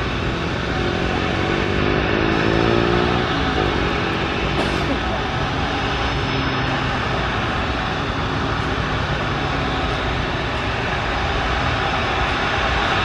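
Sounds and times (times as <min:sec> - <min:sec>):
jet engines at high power: 0:00.0 - 0:13.0.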